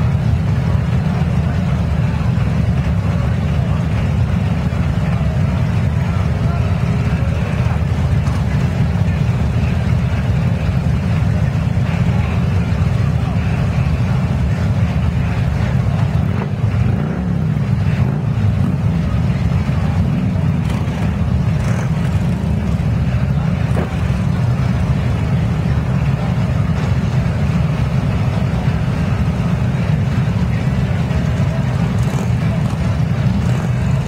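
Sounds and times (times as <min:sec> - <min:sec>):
motorcycles idling: 0:00.0 - 0:34.0.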